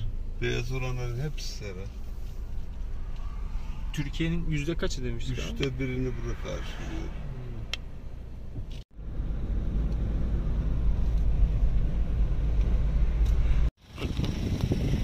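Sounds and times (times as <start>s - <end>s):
car engine and road noise rumble: 0.0s - 15.0s.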